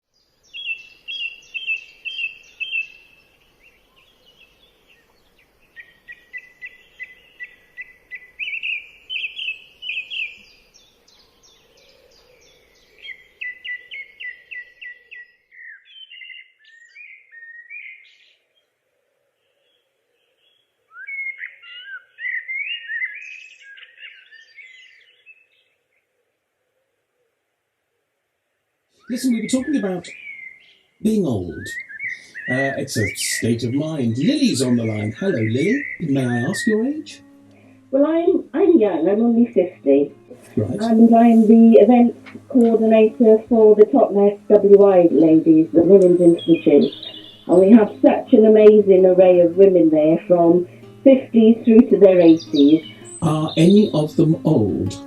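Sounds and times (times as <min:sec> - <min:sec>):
songbirds singing: 0:00.1 - 0:27.3, 0:28.9 - 0:55.0.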